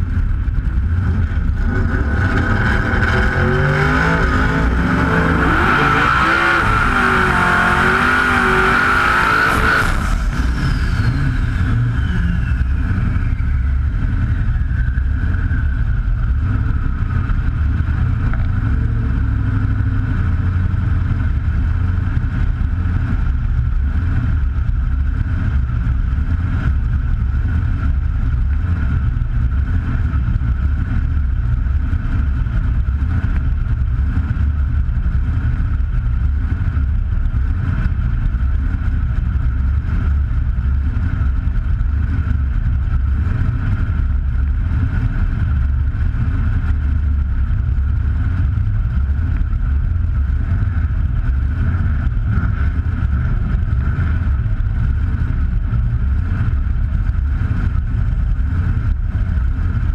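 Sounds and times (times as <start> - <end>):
engine running low rumble: 0.0 - 59.9.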